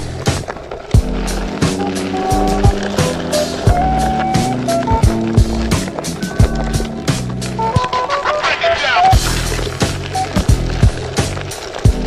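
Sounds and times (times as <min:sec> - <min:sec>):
lo-fi hip-hop music: 0:01.0 - 0:12.0.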